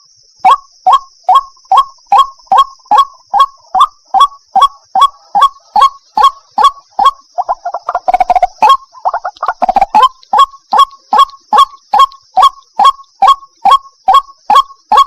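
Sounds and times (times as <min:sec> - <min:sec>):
bird calling harsh notes: 0:00.0 - 0:15.0.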